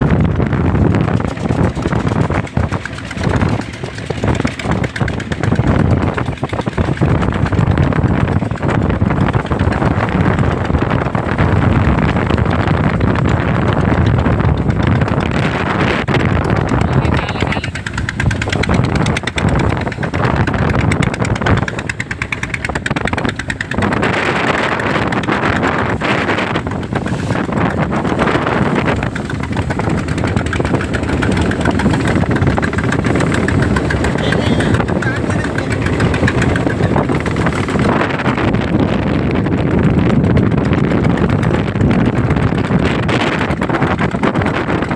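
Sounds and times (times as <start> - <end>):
boat engine rumbling: 0.0 - 44.9.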